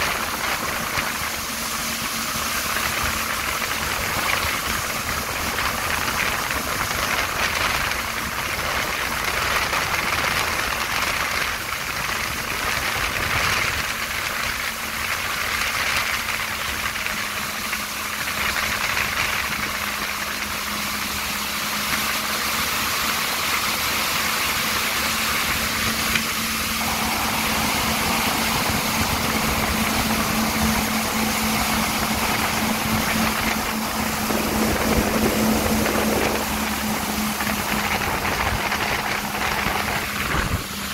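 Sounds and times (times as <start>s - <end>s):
jet ski engine running: 0.0s - 40.9s
water rushing and spraying: 0.0s - 40.9s.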